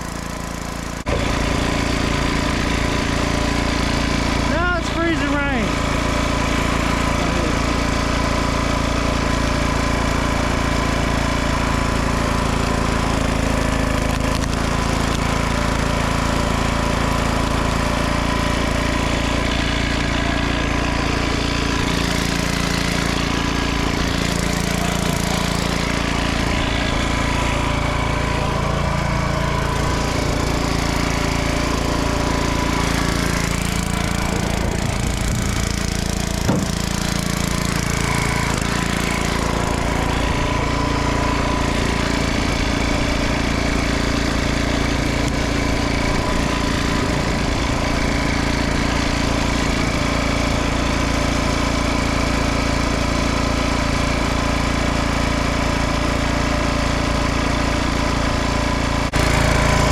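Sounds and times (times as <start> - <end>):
small petrol engine running: 0.0 - 59.9.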